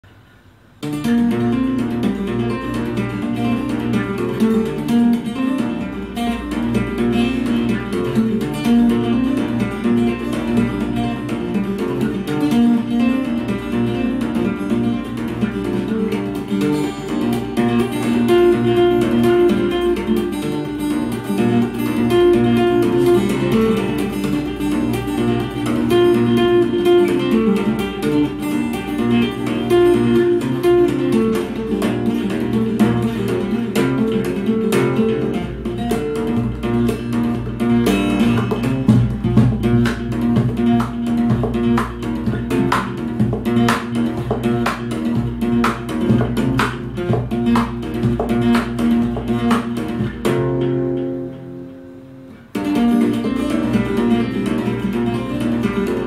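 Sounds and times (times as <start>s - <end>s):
fingerstyle acoustic guitar: 0.1s - 56.0s.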